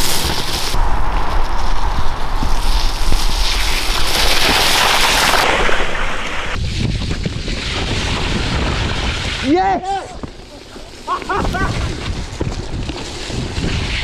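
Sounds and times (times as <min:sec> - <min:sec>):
bike tyres on muddy trail: 0:00.0 - 0:14.0
wind rushing over microphone: 0:00.0 - 0:14.0.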